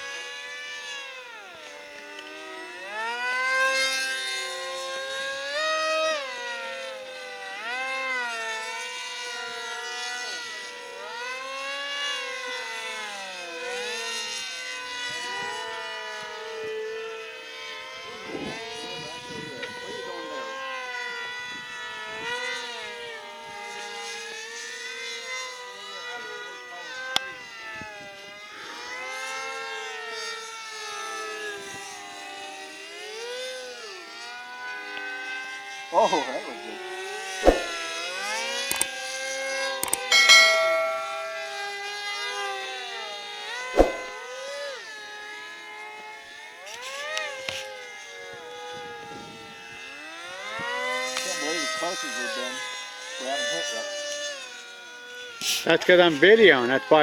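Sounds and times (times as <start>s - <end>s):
model plane motors whining: 0.0s - 40.6s, 44.4s - 57.0s.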